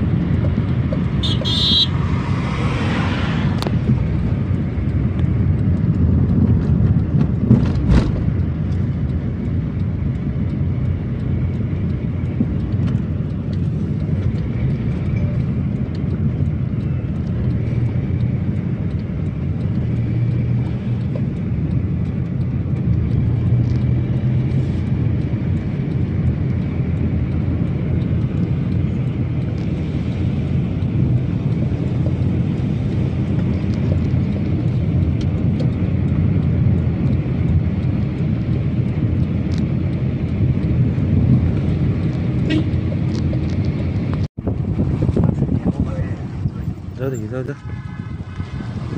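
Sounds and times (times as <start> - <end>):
car interior road rumble: 0.0 - 48.9.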